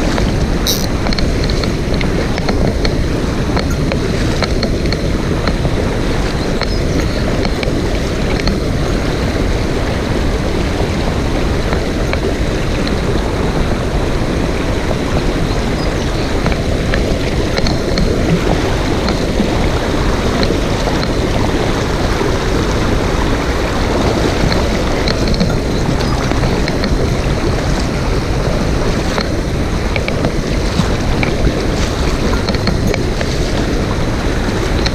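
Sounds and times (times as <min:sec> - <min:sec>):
stream water rushing over rocks: 0:00.0 - 0:34.9.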